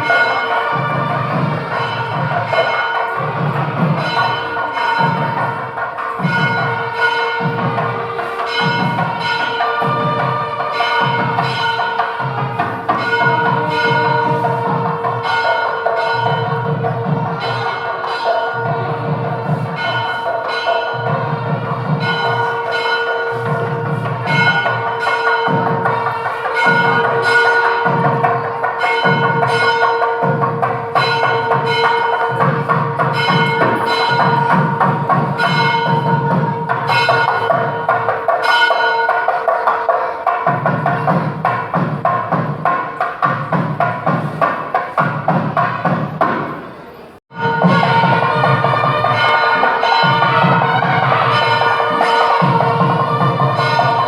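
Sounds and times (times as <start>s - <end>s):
bell-like tones: 0.0s - 41.8s, 47.0s - 54.0s
steady percussion beat: 0.0s - 54.0s.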